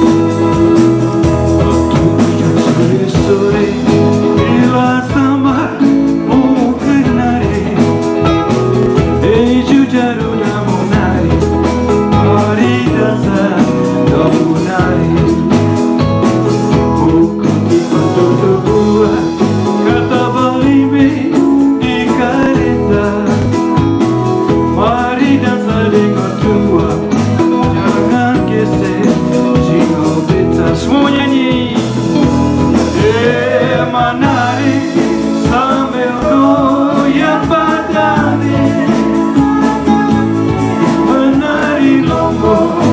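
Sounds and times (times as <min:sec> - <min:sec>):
instrumental band music: 0:00.0 - 0:42.9.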